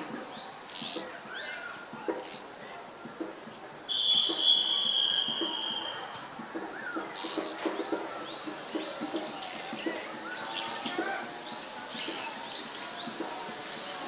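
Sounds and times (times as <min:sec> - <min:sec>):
woodpecker calling: 0:00.0 - 0:02.6, 0:03.7 - 0:14.0
birds chirping: 0:00.0 - 0:14.0.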